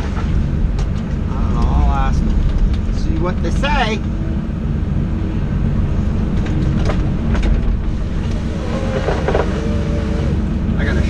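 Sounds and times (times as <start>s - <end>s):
machine engine low rumble: 0.0s - 11.0s.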